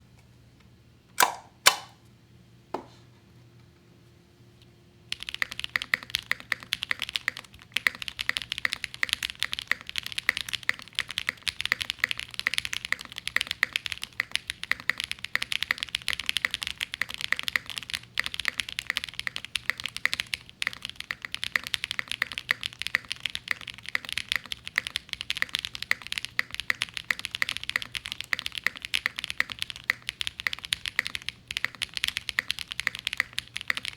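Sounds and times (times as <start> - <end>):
fast keyboard typing: 5.1 - 33.9.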